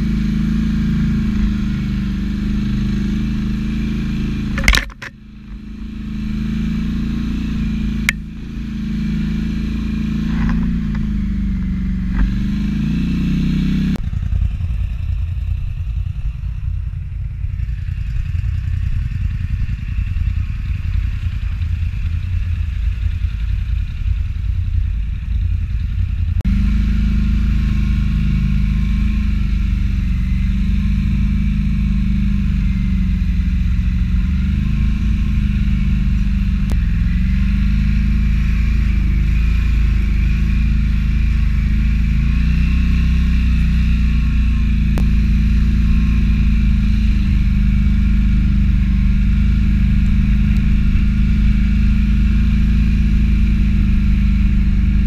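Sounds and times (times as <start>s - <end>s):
atv engine humming: 0.0s - 55.0s.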